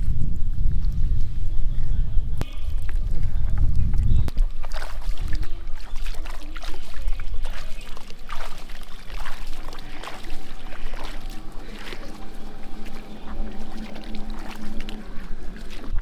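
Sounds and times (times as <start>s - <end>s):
water splashing and trickling: 2.5s - 16.0s.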